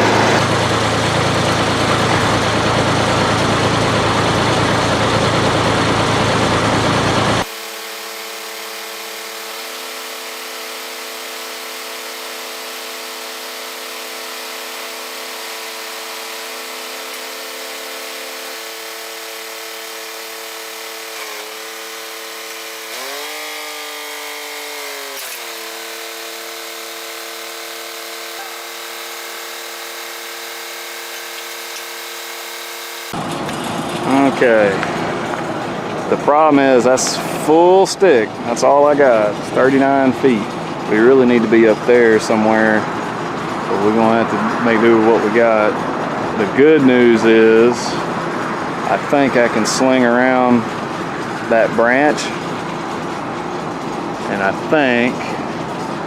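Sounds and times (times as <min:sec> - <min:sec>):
hydraulic boom whine: 0:00.0 - 0:56.0
truck engine running: 0:00.0 - 0:56.0.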